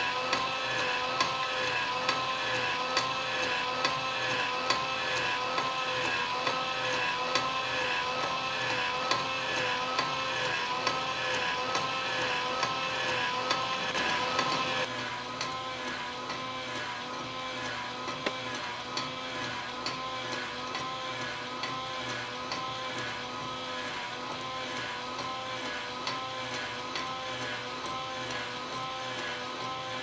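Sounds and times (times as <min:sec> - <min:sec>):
small electric motor whine: 0:00.0 - 0:30.0.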